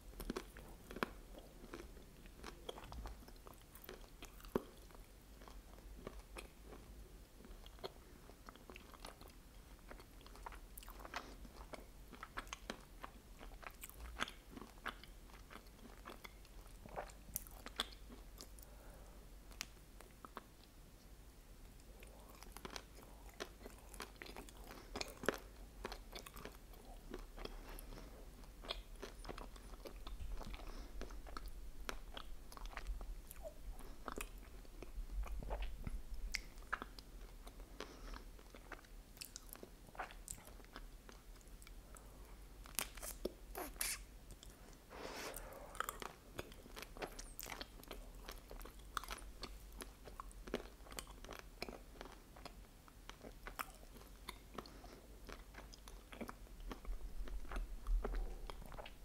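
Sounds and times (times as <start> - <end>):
wet chewing with mouth clicks: 0.1 - 18.8, 21.6 - 59.0.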